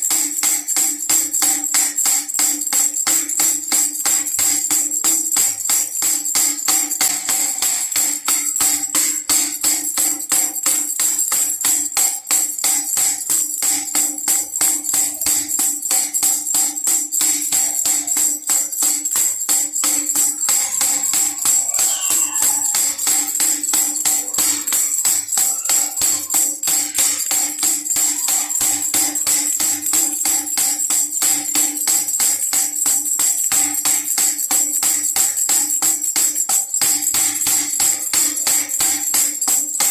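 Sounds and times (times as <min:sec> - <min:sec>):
baby rattle jingling: 0:00.0 - 0:39.9.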